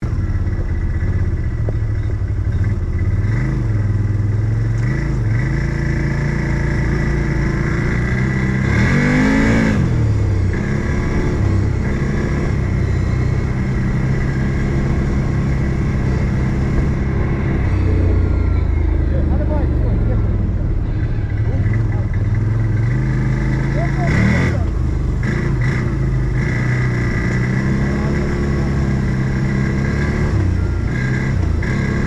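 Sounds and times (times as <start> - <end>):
off-road vehicle engine idling and revving: 0.0 - 32.0.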